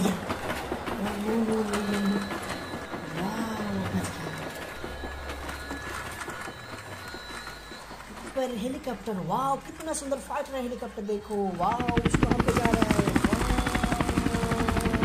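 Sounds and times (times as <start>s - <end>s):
toy train wheels clicking on track: 0.0s - 15.0s.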